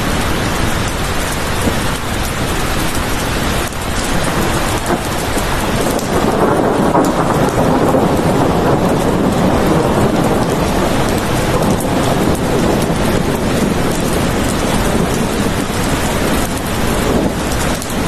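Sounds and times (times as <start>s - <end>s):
heavy rain: 0.0s - 18.0s
low rumble of thunder: 0.6s - 18.0s.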